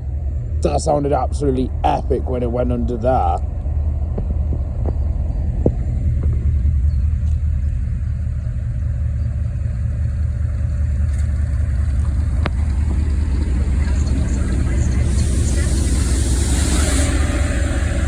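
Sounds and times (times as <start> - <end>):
diesel train engine rumble: 0.0 - 18.0.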